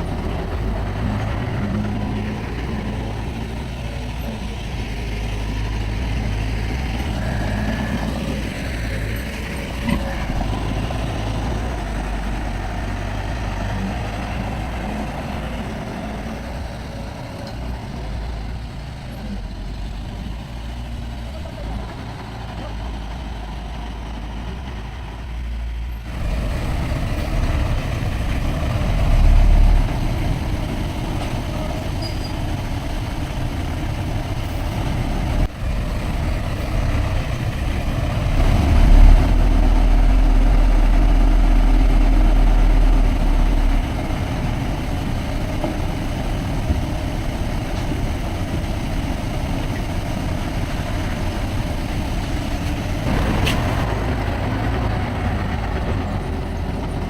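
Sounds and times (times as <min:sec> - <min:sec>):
diesel earthmoving machinery rumble: 0:00.0 - 0:57.0.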